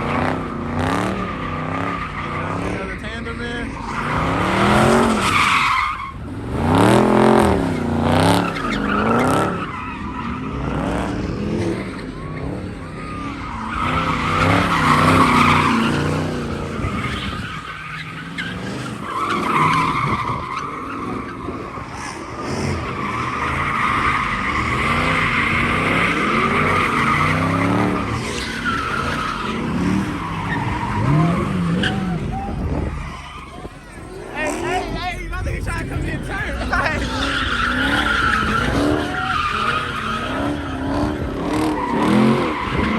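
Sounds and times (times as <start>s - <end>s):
car engines revving: 0.0s - 42.9s
tires squealing: 0.0s - 42.9s.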